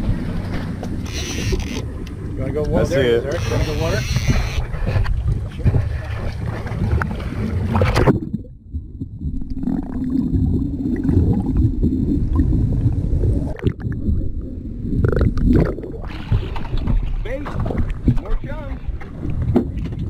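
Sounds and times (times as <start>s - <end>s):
muffled underwater rumbling: 0.0s - 20.0s
sea and wind noise: 0.0s - 20.0s.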